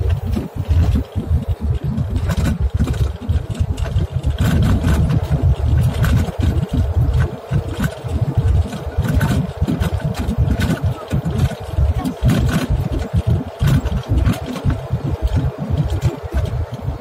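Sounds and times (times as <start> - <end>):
aircraft engine hum: 0.0 - 17.0
light rattles: 0.0 - 17.0
wheels rumbling on runway: 0.0 - 17.0.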